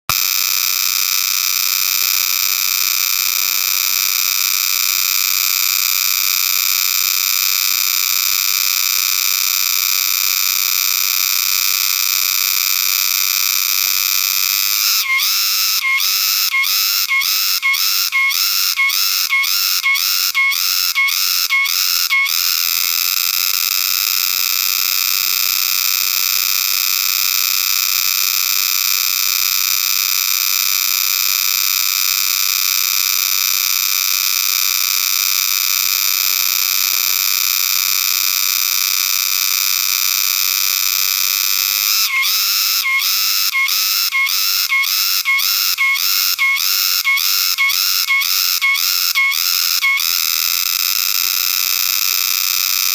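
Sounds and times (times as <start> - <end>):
cicada droning: 0.1 - 52.9.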